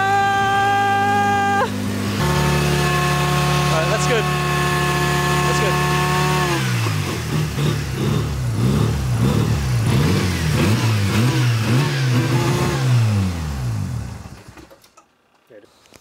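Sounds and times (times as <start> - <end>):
rotary engine revving: 0.0 - 14.7.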